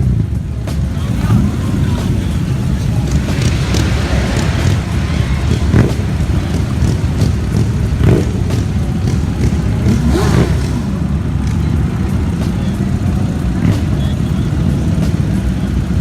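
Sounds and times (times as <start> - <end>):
vehicle engines revving: 0.0 - 16.0.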